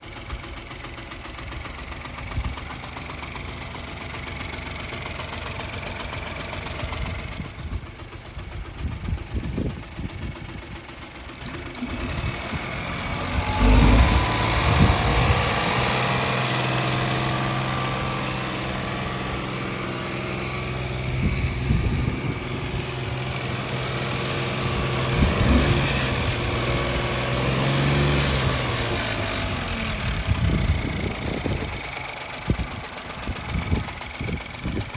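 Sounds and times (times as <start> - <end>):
car engine running roughly: 0.0 - 34.9
engine tapping noise: 0.0 - 34.9.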